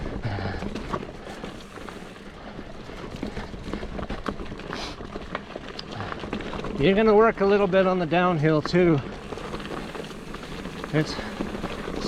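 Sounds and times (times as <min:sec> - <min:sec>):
bike clicks and rattles: 0:00.0 - 0:12.0
bike tyres on dirt and gravel: 0:00.0 - 0:12.0.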